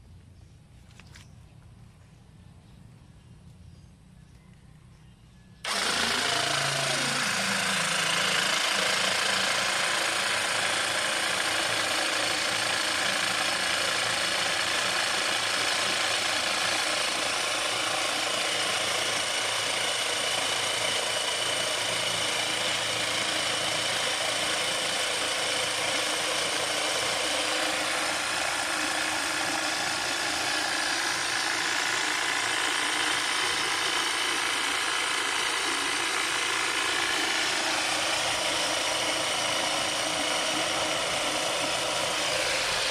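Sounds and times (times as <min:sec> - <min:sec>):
water pump motor running: 0:05.6 - 0:42.9.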